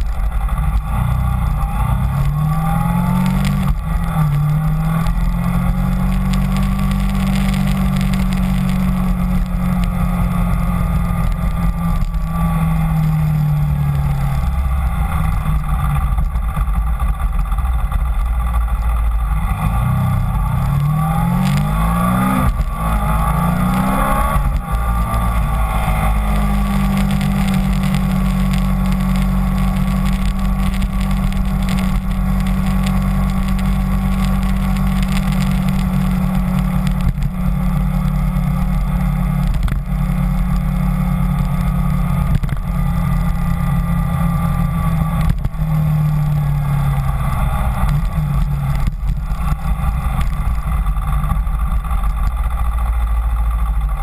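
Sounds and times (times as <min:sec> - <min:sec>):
wind rushing over microphone: 0:00.0 - 0:52.6
motorcycle engine accelerating: 0:00.0 - 0:54.0.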